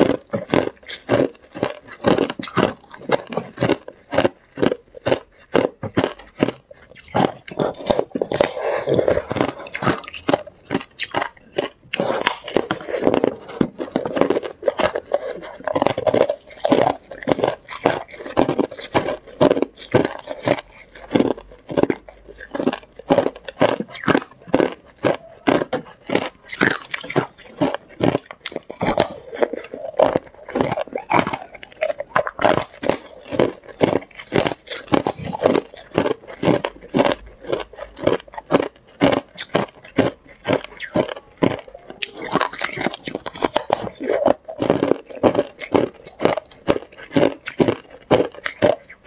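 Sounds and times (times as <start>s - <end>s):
ice being chewed: 0.0s - 49.0s.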